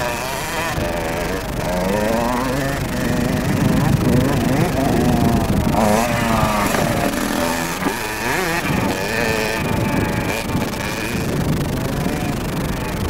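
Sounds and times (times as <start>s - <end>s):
two-stroke dirt bike engine revving: 0.0s - 13.0s.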